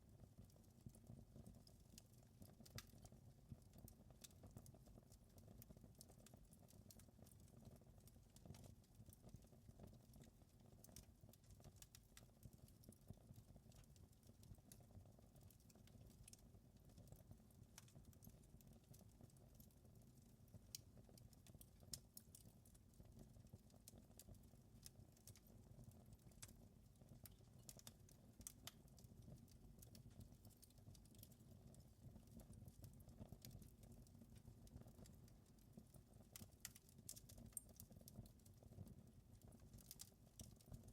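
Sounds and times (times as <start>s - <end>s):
wood fire crackling: 1.0s - 40.9s.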